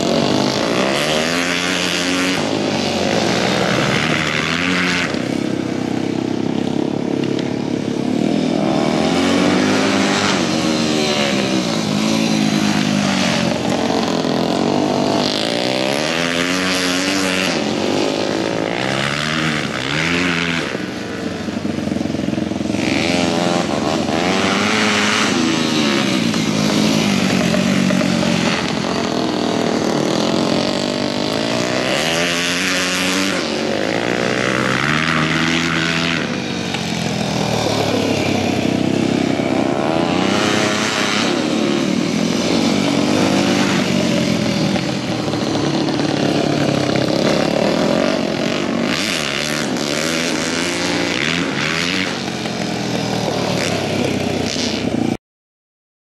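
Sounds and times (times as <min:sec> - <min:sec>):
motorcycle engines revving: 0:00.0 - 0:55.2.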